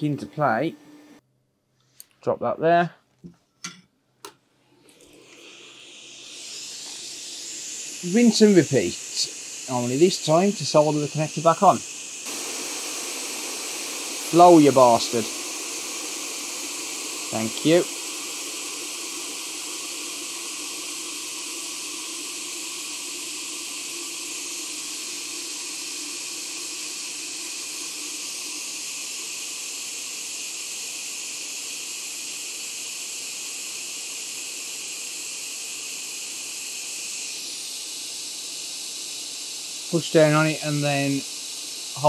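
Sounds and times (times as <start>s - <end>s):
hot air blower hissing: 0.0s - 1.2s, 4.8s - 42.0s.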